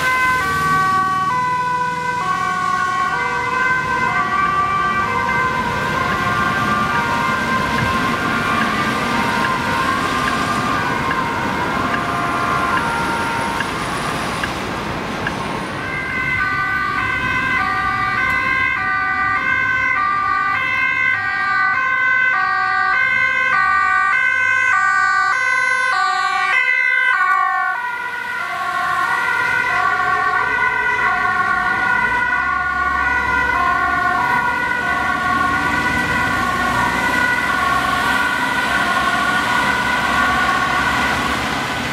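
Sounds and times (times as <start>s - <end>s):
passing traffic: 0.0s - 41.9s
two-tone sirens wailing: 0.0s - 41.9s.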